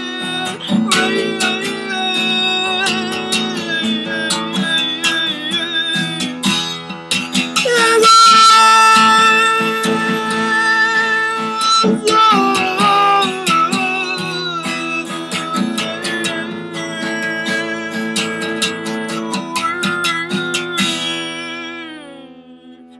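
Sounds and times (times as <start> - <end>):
person singing: 0.0 - 22.9
strummed acoustic guitar: 0.0 - 22.9.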